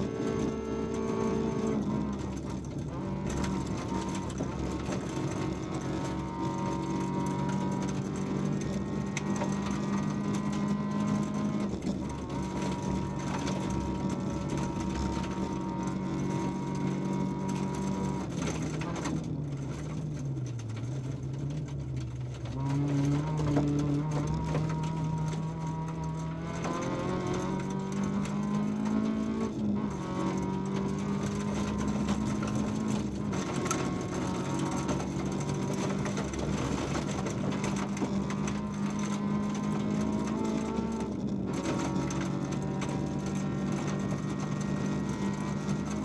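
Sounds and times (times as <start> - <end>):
car engine running hard: 0.0 - 46.0
road noise: 0.0 - 46.0.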